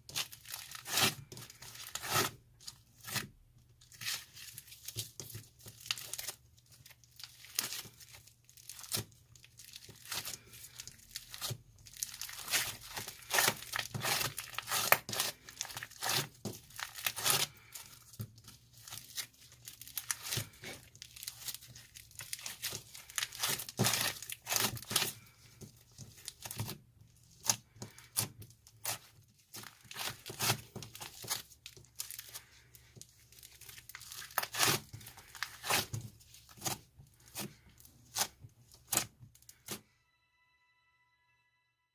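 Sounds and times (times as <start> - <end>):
slime crackling and popping: 3.9 - 39.8.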